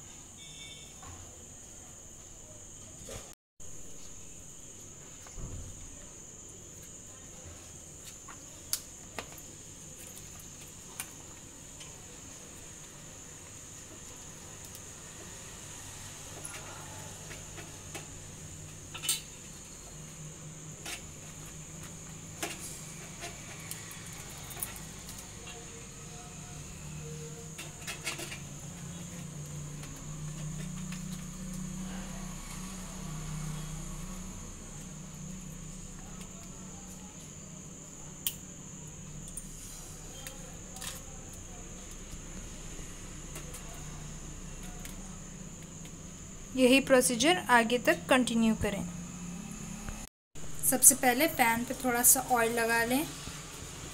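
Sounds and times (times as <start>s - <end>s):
faint high whine: 0.0s - 2.6s, 11.0s - 53.8s.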